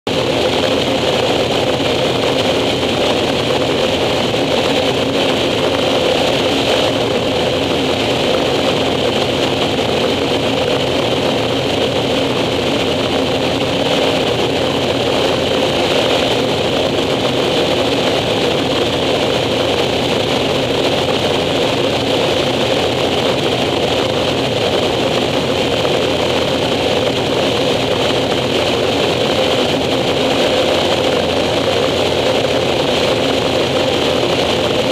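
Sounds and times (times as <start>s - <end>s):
propeller plane droning: 0.1s - 34.9s
rush of air: 0.1s - 34.9s.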